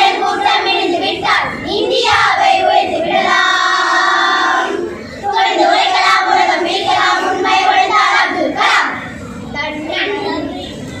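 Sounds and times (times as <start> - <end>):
children singing in unison: 0.0 - 9.2.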